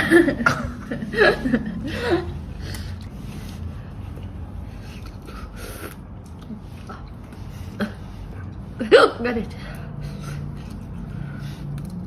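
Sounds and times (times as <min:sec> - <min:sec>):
low room noise rumble: 0:00.0 - 0:12.0.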